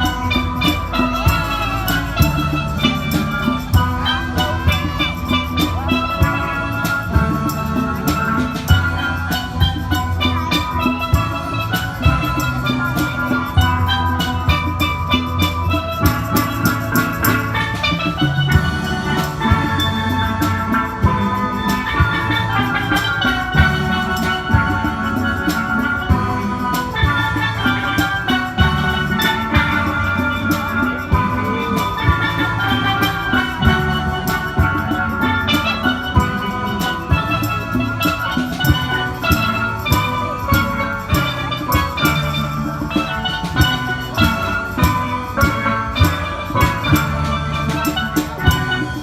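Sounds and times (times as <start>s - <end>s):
drum and percussion beat: 0.0s - 49.0s
steel pan melody: 0.0s - 49.0s.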